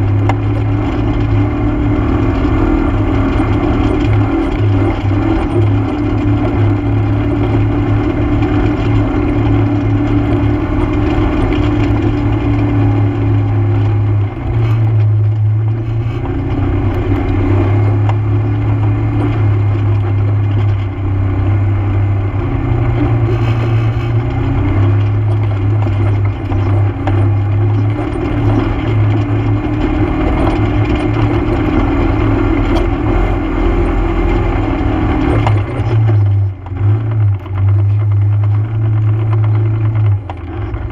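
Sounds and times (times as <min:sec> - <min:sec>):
atv engine droning: 0:00.0 - 0:40.9.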